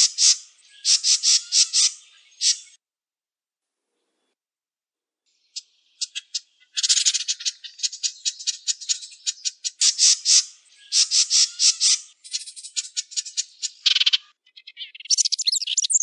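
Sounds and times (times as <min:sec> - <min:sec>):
wren singing trills: 0:00.0 - 0:02.8, 0:05.3 - 0:16.0.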